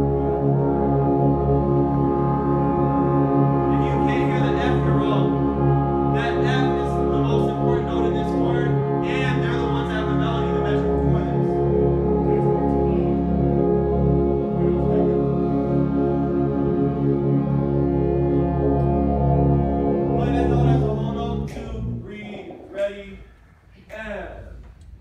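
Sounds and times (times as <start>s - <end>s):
brighter higher brass notes: 0.0s - 23.6s
brass holding low chords: 0.0s - 23.7s.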